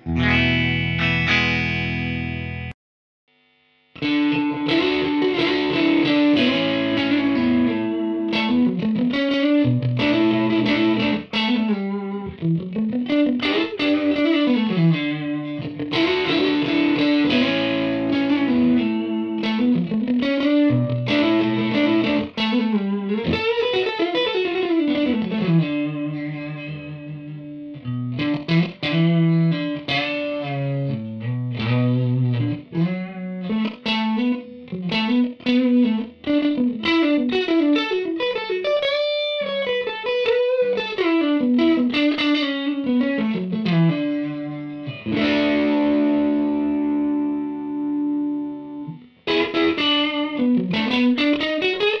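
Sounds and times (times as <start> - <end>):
overdriven electric guitar lead: 0.0 - 2.8, 3.4 - 52.0.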